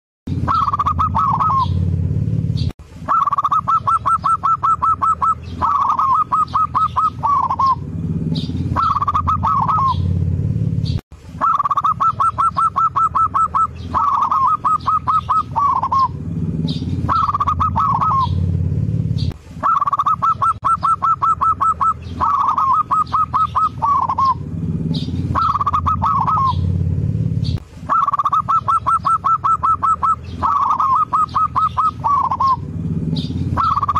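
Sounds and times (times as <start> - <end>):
dove cooing song: 0.3 - 33.9.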